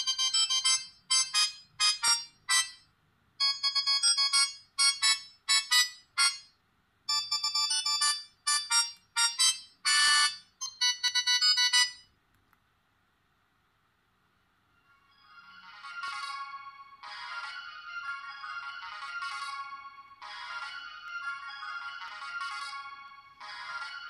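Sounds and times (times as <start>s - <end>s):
synthesized phone ringtone: 0.0s - 12.1s, 14.8s - 24.0s.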